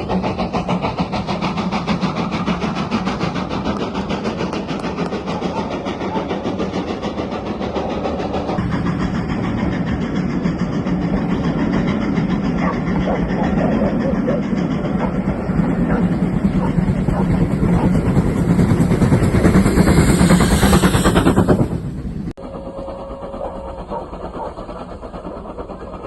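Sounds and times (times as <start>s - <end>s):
locomotive engine passing: 0.0s - 26.0s.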